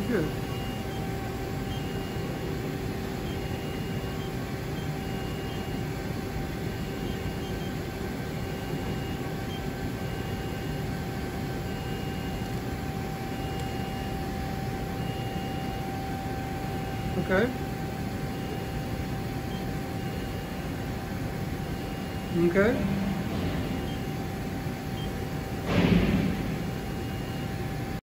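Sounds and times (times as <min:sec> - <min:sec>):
machine tool humming: 0:00.0 - 0:27.9.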